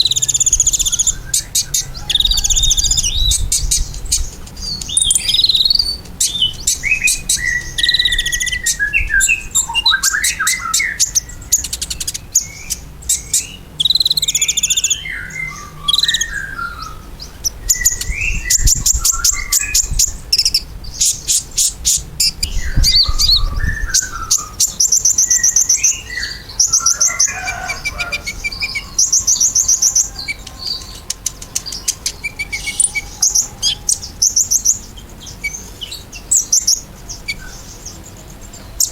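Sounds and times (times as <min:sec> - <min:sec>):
sunbird singing trills and chirps: 0:00.0 - 0:38.9.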